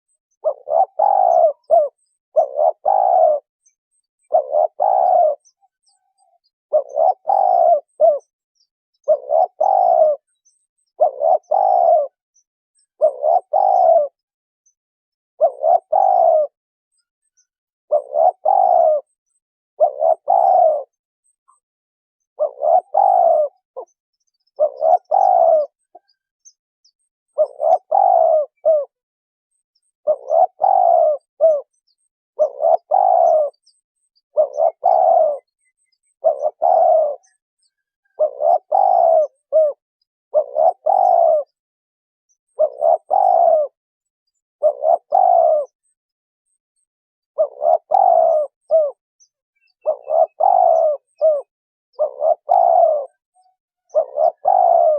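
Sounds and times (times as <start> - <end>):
dove cooing: 0.4 - 8.4, 9.0 - 12.2, 12.9 - 14.3, 15.4 - 17.0, 17.9 - 19.2, 19.8 - 21.6, 22.3 - 26.3, 27.3 - 29.0, 29.8 - 41.6, 42.5 - 43.8, 44.6 - 46.0, 47.3 - 49.0, 49.6 - 54.9.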